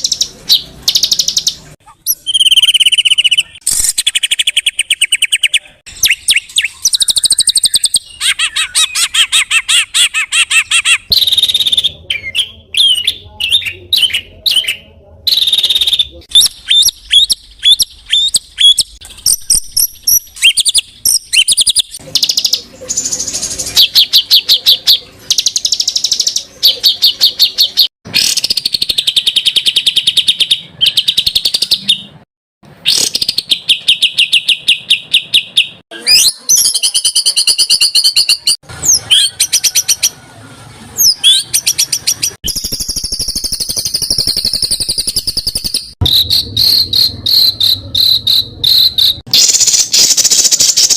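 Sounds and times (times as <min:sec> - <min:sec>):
songbird singing: 0:00.0 - 0:32.2, 0:32.8 - 0:40.2, 0:41.0 - 0:50.9.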